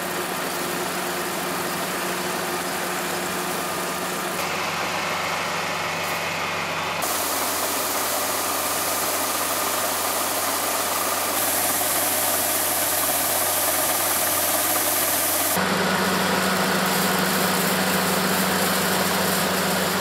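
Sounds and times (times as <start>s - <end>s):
combine harvester engine running: 0.0s - 20.0s
hiss of falling grain: 0.0s - 20.0s.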